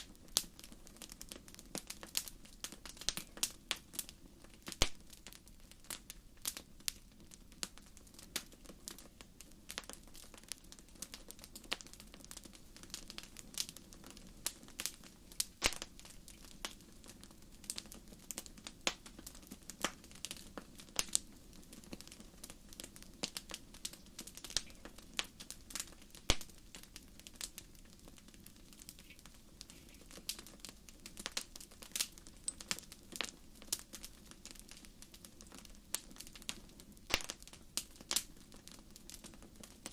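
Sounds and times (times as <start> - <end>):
low steady hiss: 0.0 - 39.9
wood fire crackling and popping: 0.0 - 39.9.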